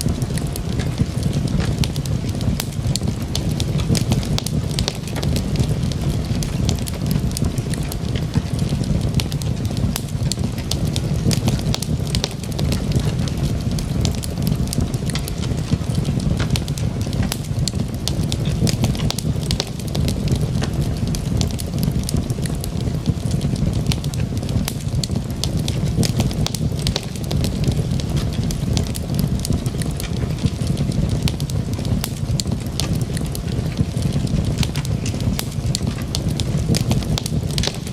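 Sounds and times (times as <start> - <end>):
low rumble of flames: 0.0 - 37.9
wood crackling and popping: 0.0 - 37.9.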